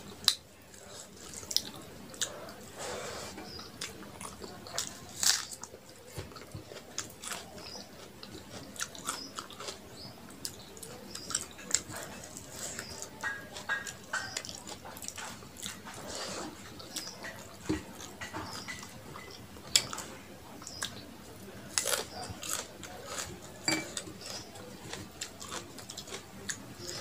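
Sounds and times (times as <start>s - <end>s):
chewing food: 0.0s - 27.0s
fingers mixing rice on metal plate: 0.1s - 27.0s.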